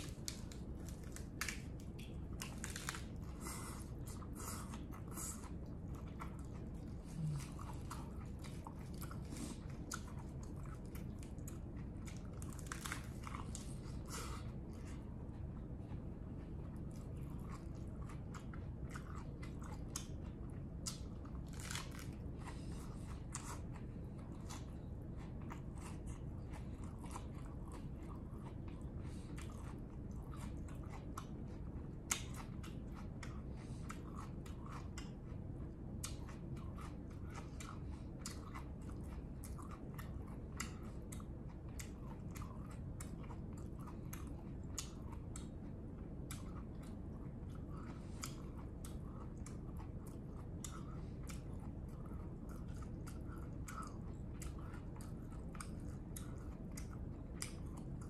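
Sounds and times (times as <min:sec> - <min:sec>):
chewing crunches: 0:00.0 - 0:58.0
low hum: 0:00.0 - 0:58.0.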